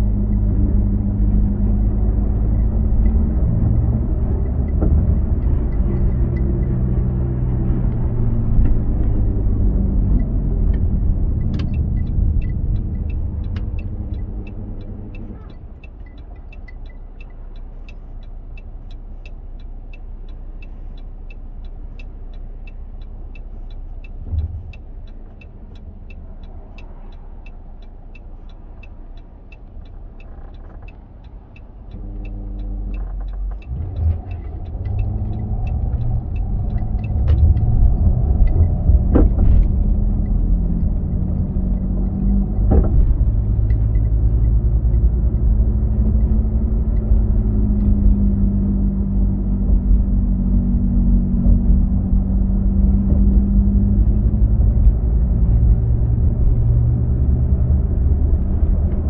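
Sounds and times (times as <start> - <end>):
car engine idling and revving: 0.0 - 59.0
road noise: 0.0 - 59.0
turn signal ticking: 0.0 - 59.0.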